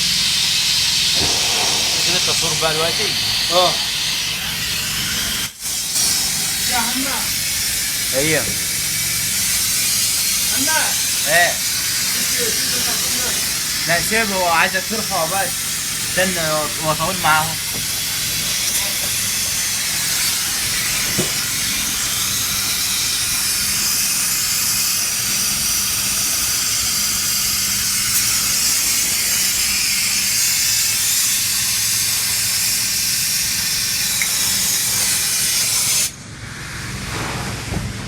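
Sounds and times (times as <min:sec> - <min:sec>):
refrigeration compressor running: 0:01.0 - 0:32.6.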